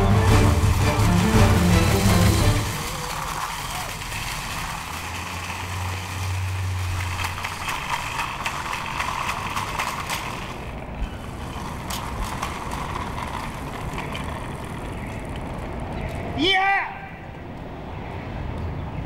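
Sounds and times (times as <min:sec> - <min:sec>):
shopping cart rattling on pavement: 0:00.0 - 0:16.1
city traffic: 0:00.0 - 0:19.0.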